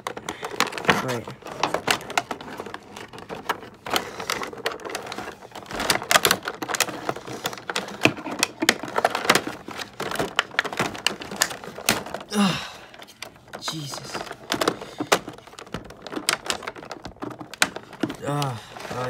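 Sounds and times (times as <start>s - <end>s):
plastic packaging clicking and crinkling: 0.0s - 19.0s.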